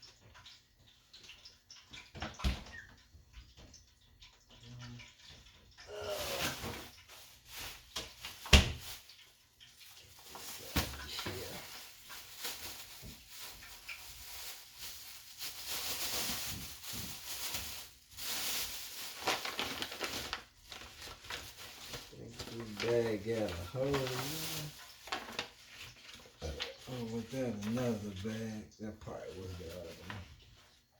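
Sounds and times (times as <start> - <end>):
plastic bag rustling and crinkling: 5.9 - 30.9.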